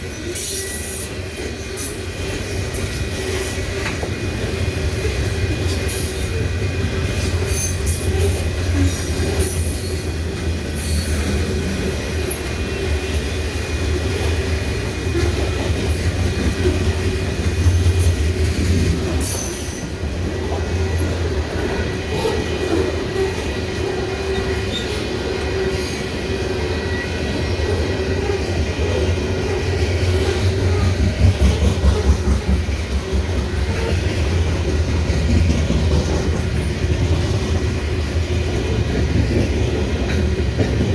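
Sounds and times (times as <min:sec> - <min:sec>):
steel wheels rumbling on rail: 0:00.0 - 0:40.9.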